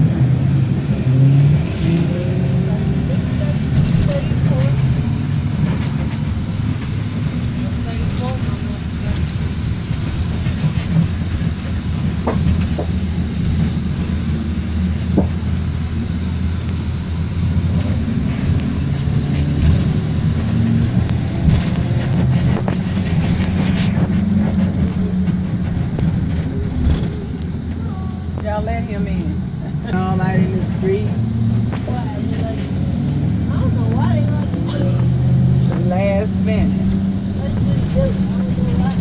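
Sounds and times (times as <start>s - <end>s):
bus engine rumble: 0.0s - 39.0s
tyres on wet road: 0.0s - 39.0s.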